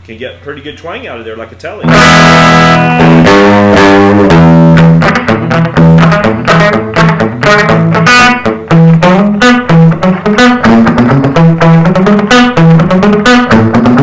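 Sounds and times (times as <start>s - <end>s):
clean electric guitar notes: 1.8s - 14.0s.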